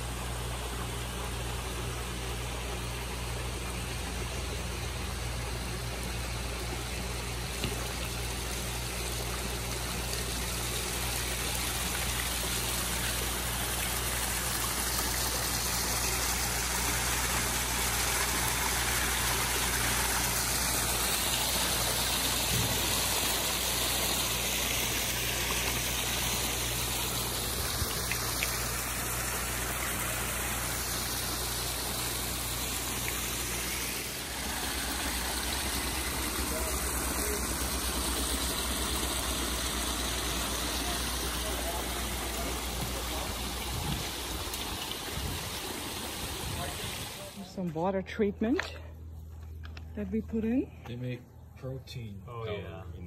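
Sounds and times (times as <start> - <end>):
low steady hum: 0.0 - 53.0
waterfall splashing over stone: 3.4 - 47.4.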